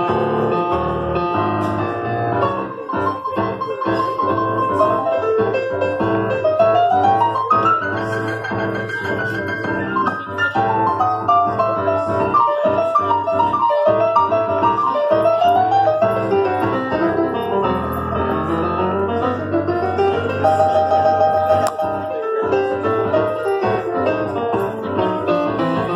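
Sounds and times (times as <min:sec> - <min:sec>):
electronic keyboard piano solo: 0:00.0 - 0:25.9.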